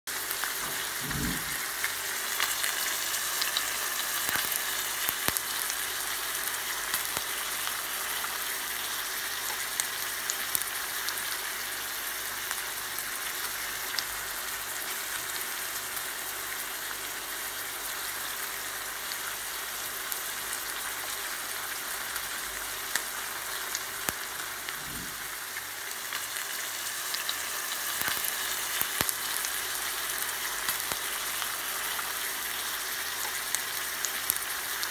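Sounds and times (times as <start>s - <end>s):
steak sizzling in a pan: 0.1s - 34.9s.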